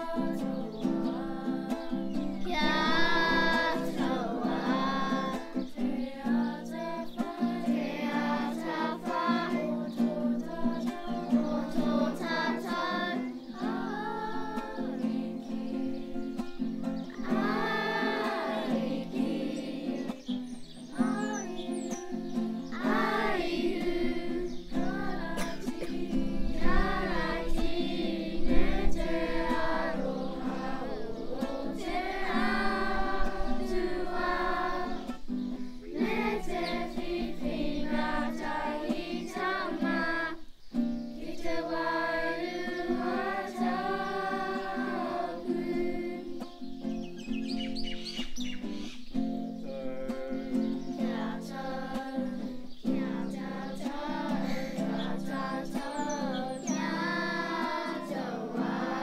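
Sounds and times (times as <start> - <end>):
children singing in unison: 0.0 - 48.8, 49.4 - 59.0
strummed acoustic guitar: 0.0 - 59.0.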